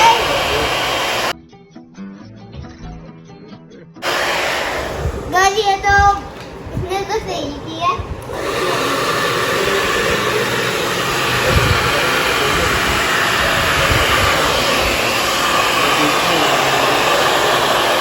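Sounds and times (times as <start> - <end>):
hair dryer running: 0.0 - 1.4, 4.0 - 18.0.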